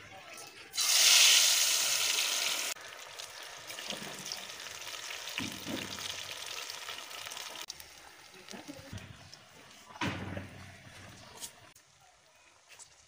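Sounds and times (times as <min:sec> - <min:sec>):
fries sizzling in hot oil: 0:00.7 - 0:13.0.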